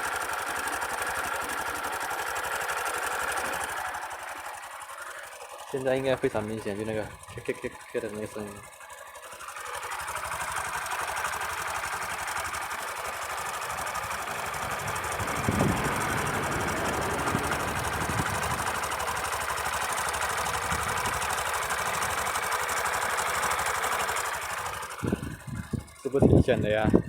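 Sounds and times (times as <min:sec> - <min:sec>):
motorcycle engine clattering idle: 0:00.0 - 0:27.0.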